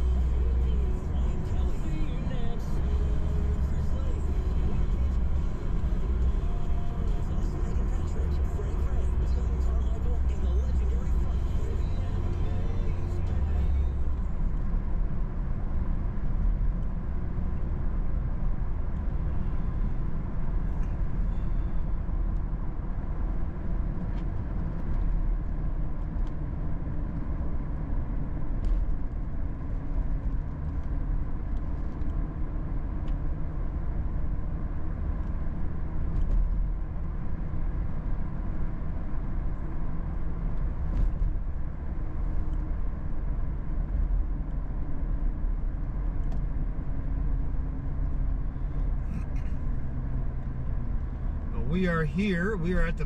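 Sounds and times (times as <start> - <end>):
truck engine and tyre rumble: 0.0 - 53.0.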